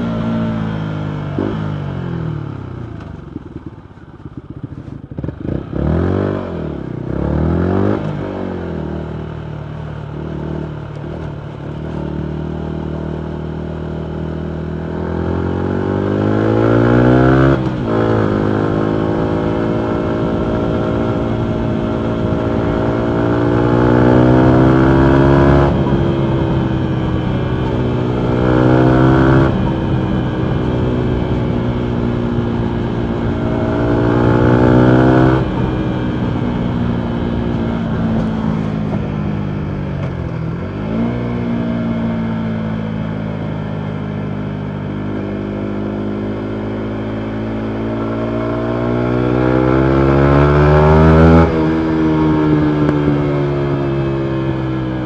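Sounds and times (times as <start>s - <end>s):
motorcycle engine revving and accelerating: 0.0s - 55.0s.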